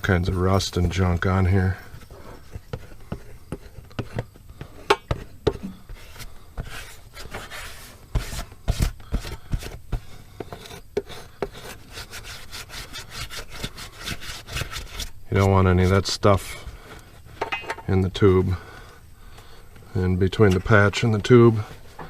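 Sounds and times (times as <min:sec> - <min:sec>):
hand scraping and rubbing rubber: 0:00.0 - 0:22.0.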